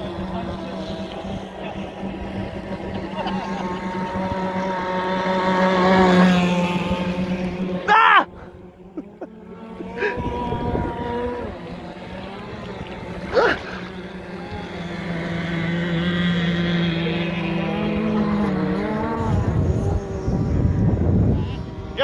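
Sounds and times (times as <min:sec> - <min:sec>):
rc boat engines buzzing: 0:00.0 - 0:22.0.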